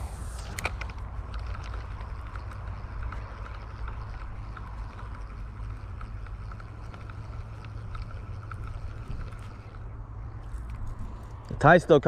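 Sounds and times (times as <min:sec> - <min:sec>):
faint ticks: 0:00.4 - 0:11.5.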